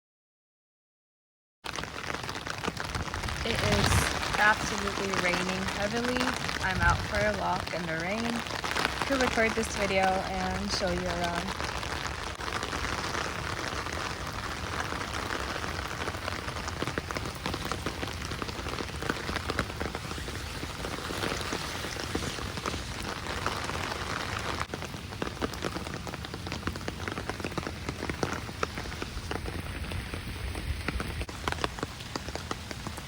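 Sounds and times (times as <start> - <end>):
heavy rain falling: 1.7 - 33.0
sharp raindrop ticks: 1.7 - 33.0.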